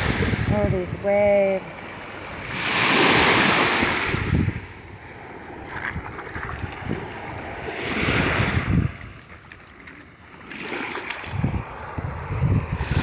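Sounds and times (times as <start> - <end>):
wind on microphone: 0.0 - 1.6, 2.4 - 9.6, 10.9 - 13.0
surf washing over sand: 0.0 - 9.6, 10.3 - 13.0.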